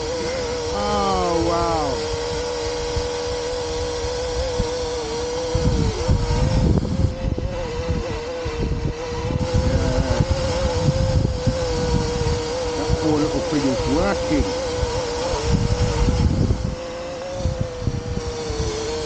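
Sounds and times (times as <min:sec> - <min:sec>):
drone propellers humming: 0:00.0 - 0:19.0
wind rumbling on microphone: 0:00.0 - 0:19.0.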